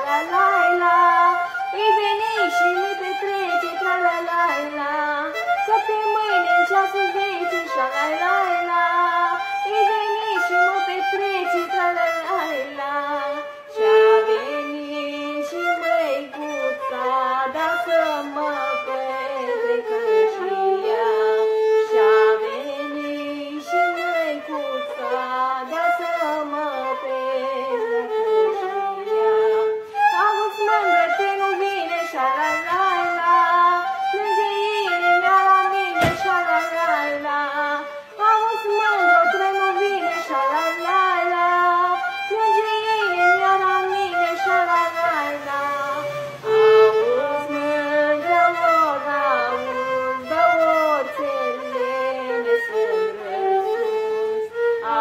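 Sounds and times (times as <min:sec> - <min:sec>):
violin: 0:00.0 - 0:55.0
woman singing: 0:00.0 - 0:55.0.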